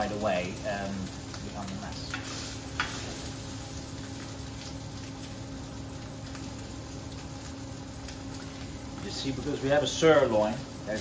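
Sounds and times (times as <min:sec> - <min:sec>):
steak sizzling in a hot pan: 0:00.0 - 0:11.0.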